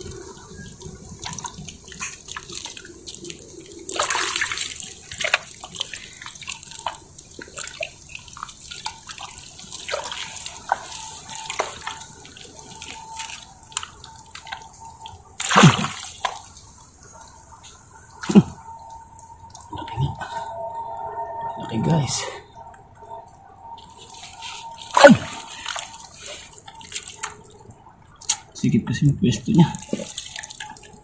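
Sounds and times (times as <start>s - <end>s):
wet mud squelching: 0.0s - 20.5s, 23.7s - 28.6s, 29.6s - 31.0s
water sloshing and dripping: 0.0s - 31.0s.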